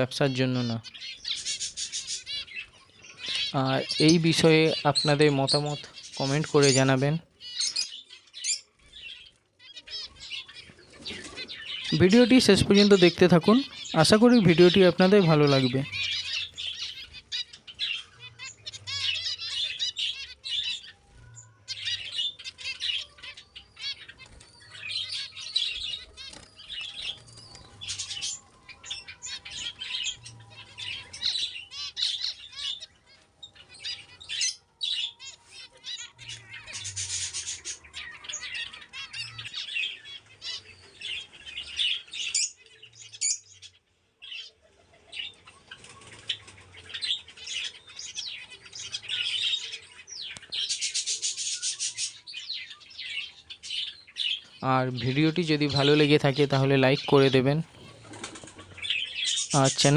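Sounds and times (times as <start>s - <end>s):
parrots chirping: 0.0s - 59.9s.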